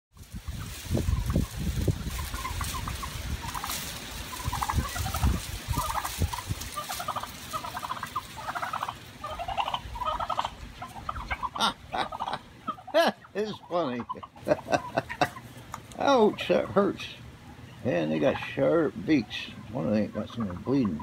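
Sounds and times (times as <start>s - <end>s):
turkeys gobbling: 0.2s - 21.0s.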